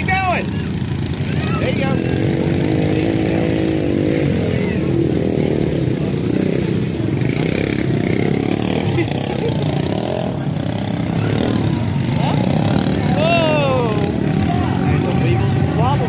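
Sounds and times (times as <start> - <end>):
dirt bike engine running: 0.0 - 16.0
spectators' voices: 0.0 - 16.0.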